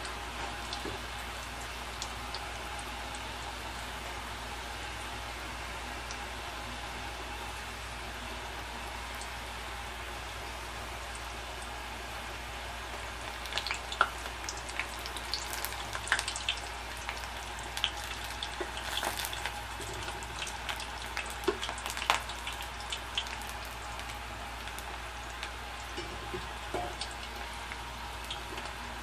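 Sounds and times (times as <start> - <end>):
dough sizzling in hot oil: 0.0 - 29.0.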